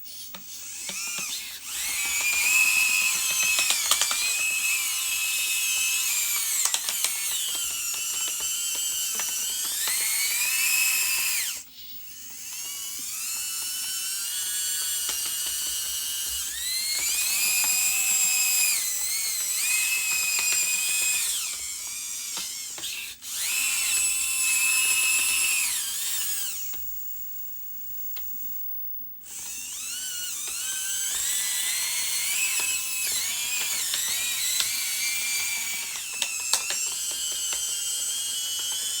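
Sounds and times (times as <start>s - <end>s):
small electric motors whining: 0.0s - 39.0s.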